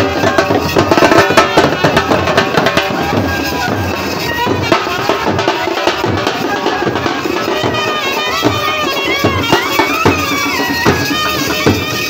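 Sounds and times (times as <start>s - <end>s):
drums: 0.0s - 12.0s
reedy wind instrument melody: 0.0s - 12.0s.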